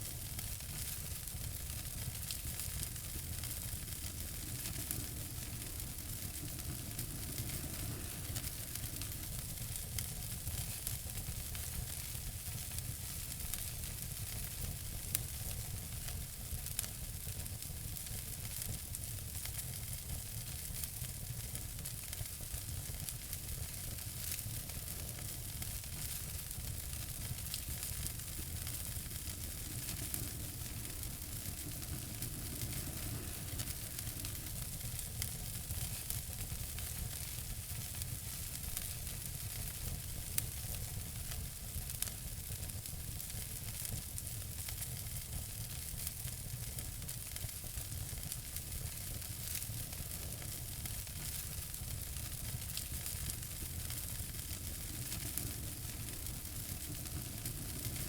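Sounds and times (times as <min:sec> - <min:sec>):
sharp fire pops: 0:00.0 - 0:58.0
wood fire crackling: 0:00.0 - 0:58.0.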